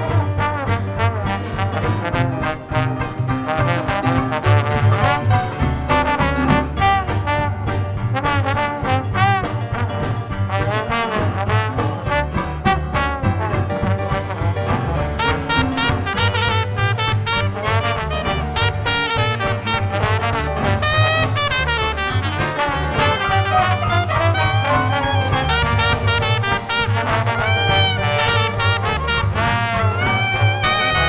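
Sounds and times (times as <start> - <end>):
jazz band playing: 0.0 - 31.0.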